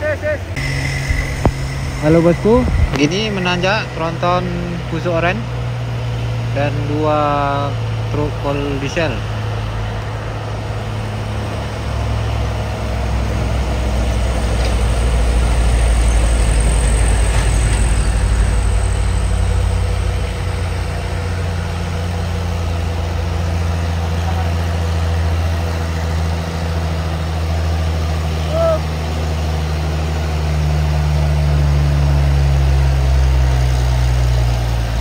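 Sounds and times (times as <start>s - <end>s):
diesel truck engines labouring: 0.0s - 35.0s.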